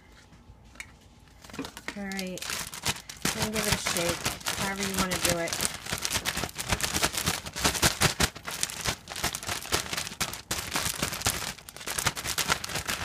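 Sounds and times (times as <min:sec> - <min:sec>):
plastic bag crinkling: 0:01.3 - 0:13.0.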